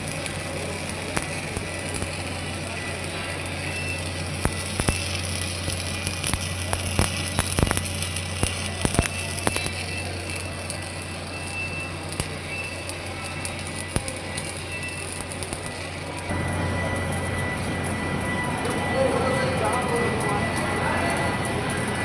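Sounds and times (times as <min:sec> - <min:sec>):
arc welding crackles and pops: 0:00.0 - 0:22.0
welder low hum: 0:00.0 - 0:22.0.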